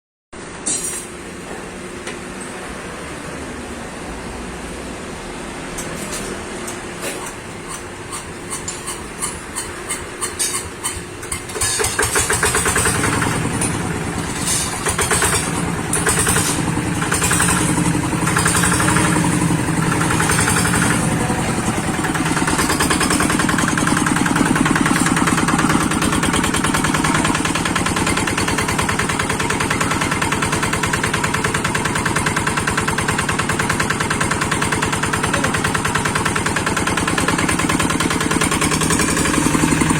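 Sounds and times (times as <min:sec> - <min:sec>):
hand tractor engine starting: 0:05.8 - 0:39.9.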